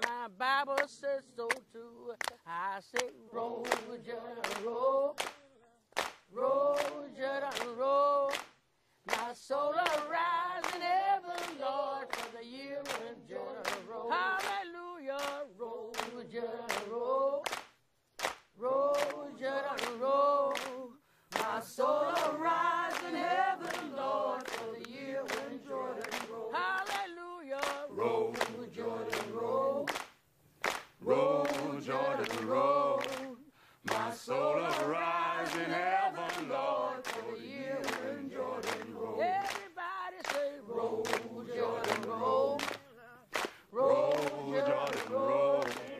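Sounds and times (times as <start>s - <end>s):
group singing a cappella: 0.0s - 17.6s, 18.5s - 45.9s
hand claps: 0.8s - 2.4s, 3.0s - 14.6s, 15.2s - 45.9s.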